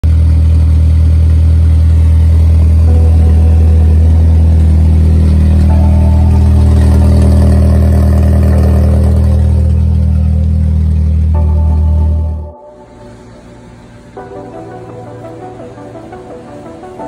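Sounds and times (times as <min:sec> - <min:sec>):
car engine idling with exhaust drone: 0:00.0 - 0:17.0.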